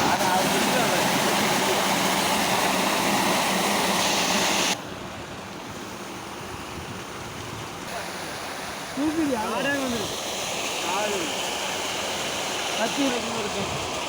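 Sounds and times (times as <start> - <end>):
water rushing from tanker outlet: 0.0 - 14.0.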